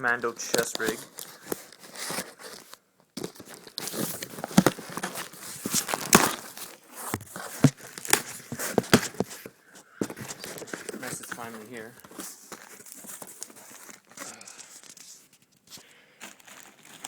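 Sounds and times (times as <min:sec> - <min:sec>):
packaging being torn and crumpled: 0:00.0 - 0:09.5, 0:10.2 - 0:15.4, 0:16.2 - 0:17.0.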